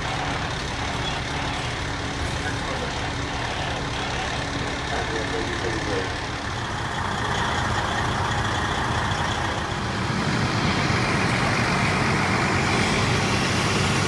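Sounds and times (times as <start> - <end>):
diesel engines idling: 0.0 - 14.0.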